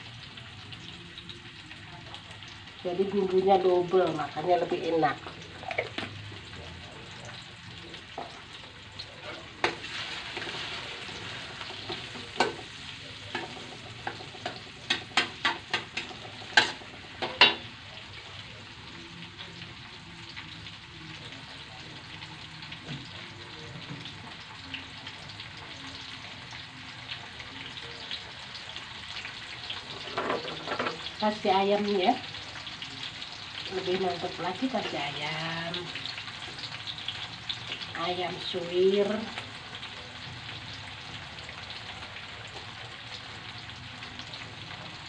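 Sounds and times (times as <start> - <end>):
paste sizzling in oil: 0.0 - 45.0.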